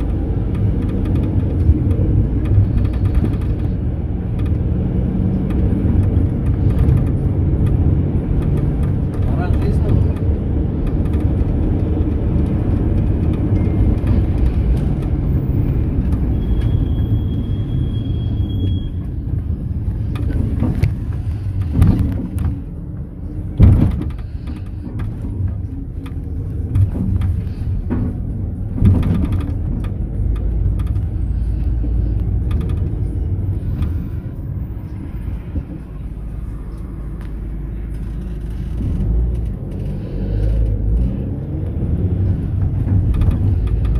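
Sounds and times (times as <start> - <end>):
knocks and rattles: 0.0 - 16.8, 19.9 - 36.0, 37.8 - 43.9
engine and road rumble: 0.0 - 43.9.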